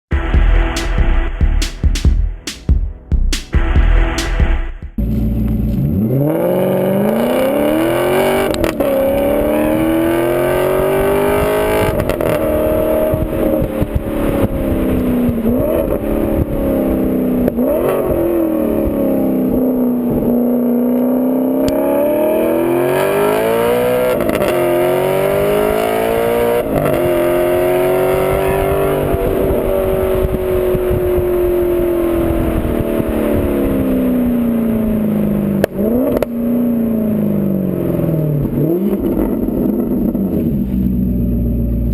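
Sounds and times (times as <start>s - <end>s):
gear changes: 3.6s - 41.9s
car engine exhaust revving: 3.7s - 41.9s.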